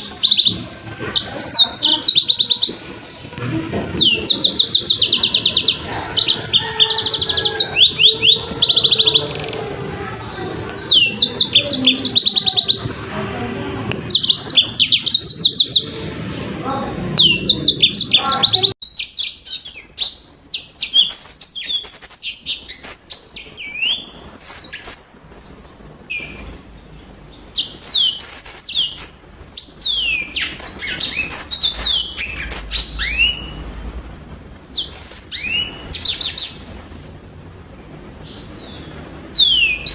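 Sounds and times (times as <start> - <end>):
canary singing: 0.0 - 34.0, 34.6 - 37.2, 38.2 - 39.9
low background rumble: 0.0 - 39.9.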